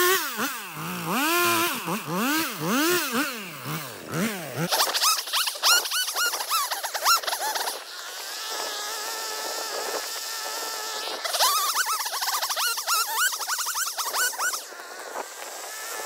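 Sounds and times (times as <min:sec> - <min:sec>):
chainsaw revving and cutting: 0:00.0 - 0:16.0.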